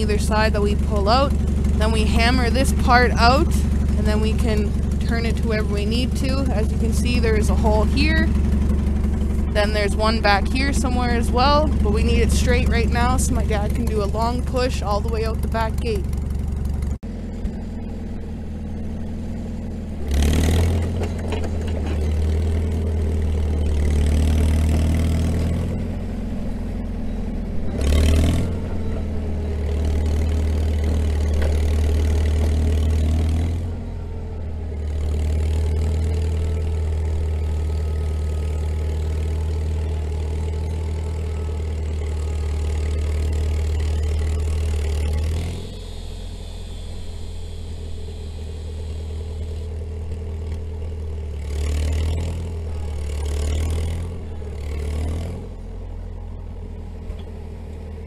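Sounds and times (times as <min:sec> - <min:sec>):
dozer engine running under load: 0:00.0 - 0:58.0.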